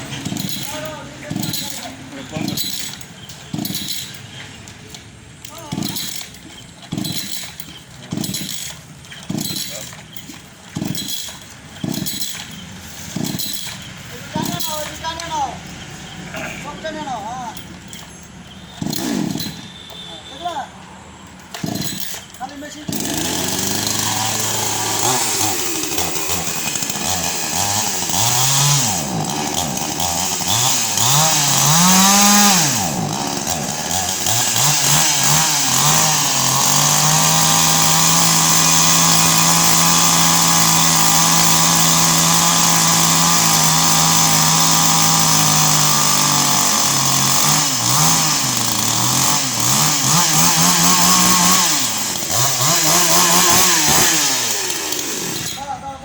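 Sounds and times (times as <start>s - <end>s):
chainsaw engine revving: 0.0s - 20.6s, 21.3s - 55.8s.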